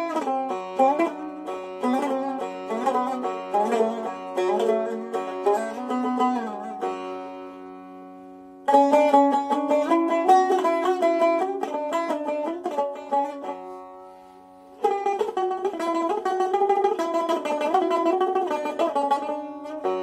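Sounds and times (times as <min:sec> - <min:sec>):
plucked saz run: 0:00.0 - 0:20.0.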